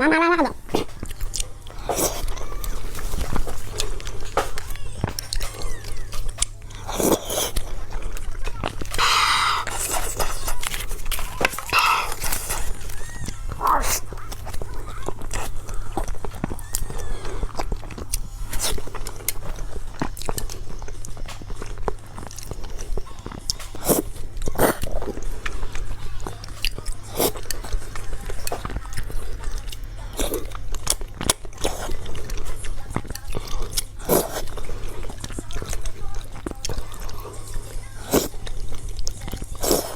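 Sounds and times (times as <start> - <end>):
person chewing with wet smacks: 0.0 - 39.9.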